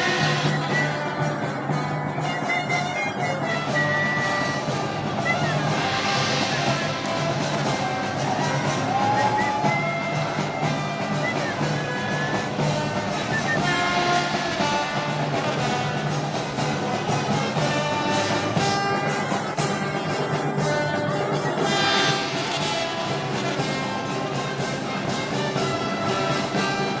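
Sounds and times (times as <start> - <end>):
brass band playing march: 0.0 - 27.0.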